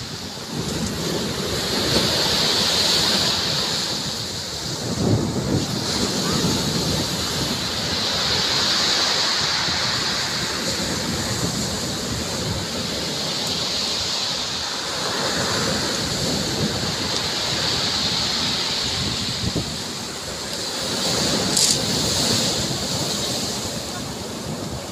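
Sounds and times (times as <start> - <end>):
surf breaking on pebble beach: 0.0 - 24.9.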